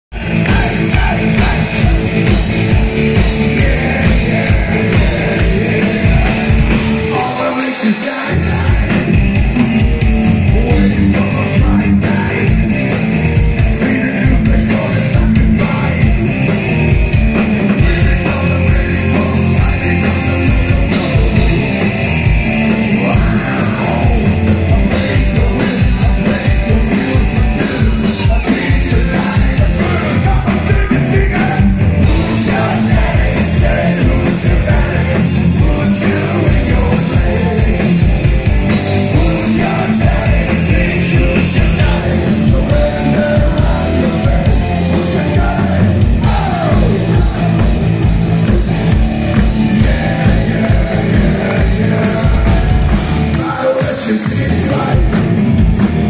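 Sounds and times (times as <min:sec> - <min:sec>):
singer's vocals: 0:00.0 - 0:16.5, 0:17.6 - 0:55.7
metal band playing: 0:00.1 - 0:56.0.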